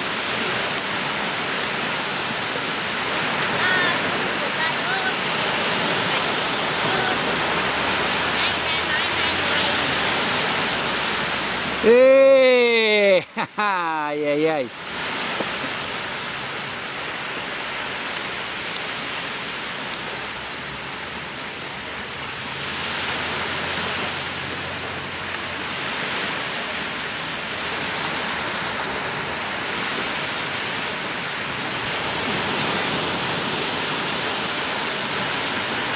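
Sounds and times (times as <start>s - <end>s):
waves breaking on shore: 0.0s - 35.9s.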